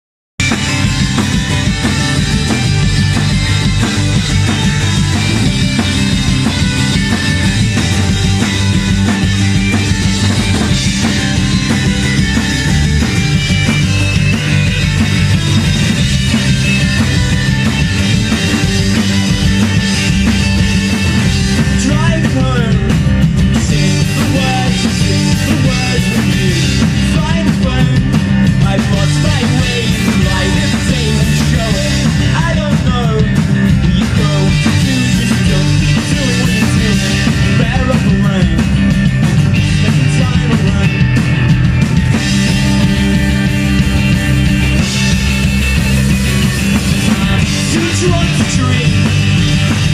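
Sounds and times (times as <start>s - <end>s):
acoustic and electric guitars: 0.4s - 49.9s
bass guitar: 0.4s - 49.9s
drum kit: 0.4s - 49.9s.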